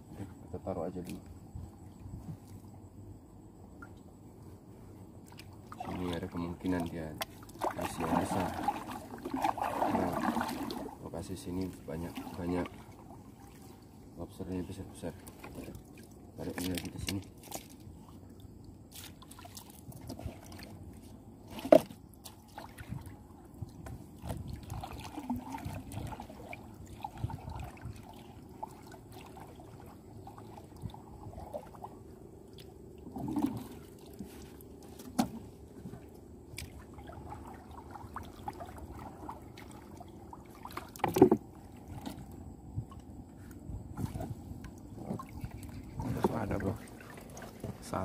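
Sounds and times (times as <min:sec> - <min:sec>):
water sloshing around boat: 0:00.0 - 0:48.0.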